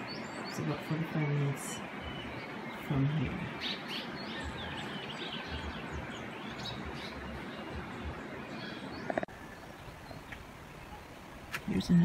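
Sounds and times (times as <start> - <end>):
birds chirping: 0.0 - 12.0
outdoor background hiss: 0.0 - 12.0.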